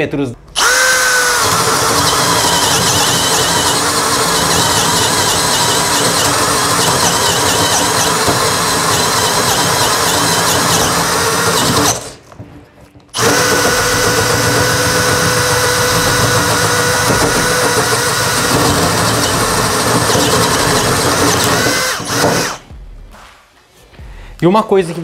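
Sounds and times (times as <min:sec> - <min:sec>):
drill boring into wood: 0:00.5 - 0:12.2, 0:13.2 - 0:22.6.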